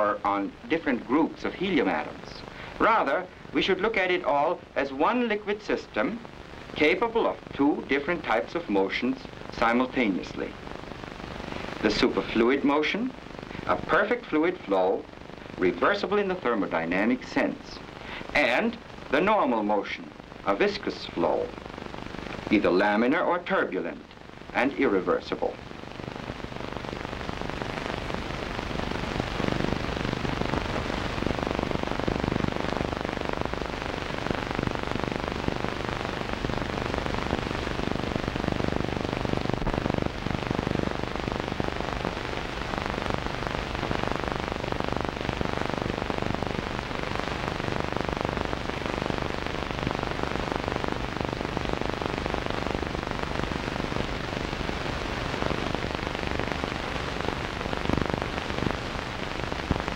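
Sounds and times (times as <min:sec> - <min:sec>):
low steady hum: 0:00.0 - 0:59.9
old film soundtrack hiss and crackle: 0:00.0 - 0:59.9.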